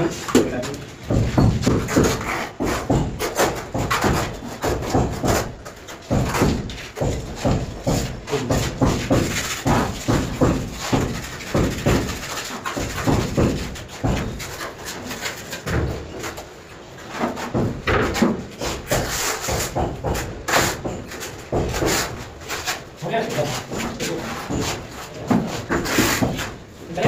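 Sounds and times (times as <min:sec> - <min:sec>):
trowels scraping adhesive on wall: 0:00.0 - 0:27.0.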